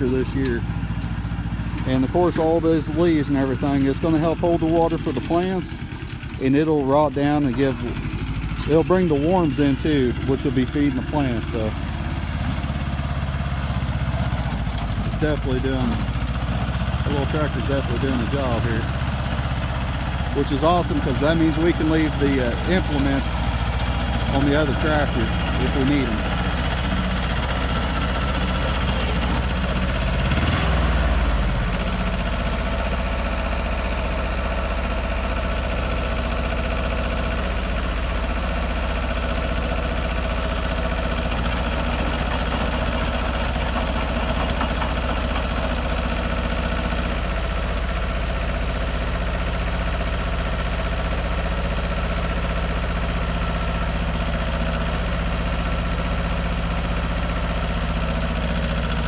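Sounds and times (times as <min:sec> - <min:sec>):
rotary tiller in soil: 0:00.0 - 0:59.0
tractor diesel engine running: 0:00.0 - 0:59.0.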